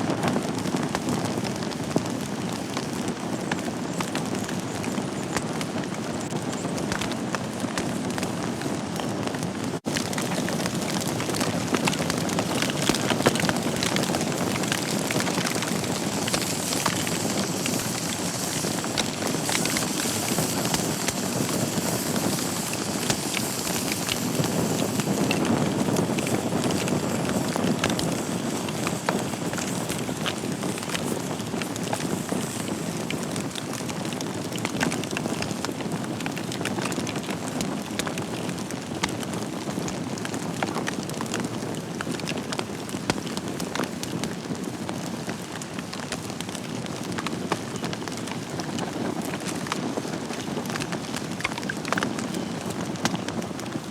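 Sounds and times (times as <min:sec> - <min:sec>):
wood fire burning: 0:00.0 - 0:53.9
crackles and pops of logs: 0:00.1 - 0:53.9.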